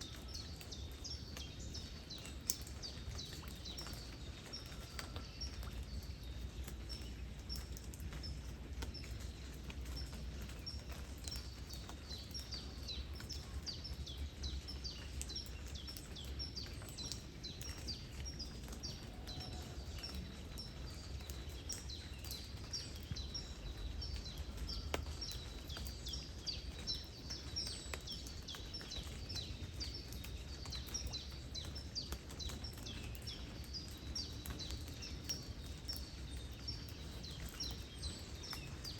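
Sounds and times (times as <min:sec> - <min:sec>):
light rain drops: 0:00.0 - 0:38.9
small birds chirping: 0:00.0 - 0:38.9
wind and flowing water: 0:00.0 - 0:38.9.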